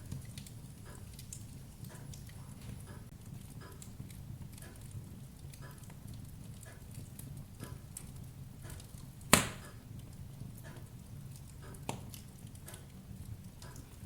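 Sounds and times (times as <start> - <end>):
fire pops: 0.0 - 14.0
wood fire crackling: 0.0 - 14.0.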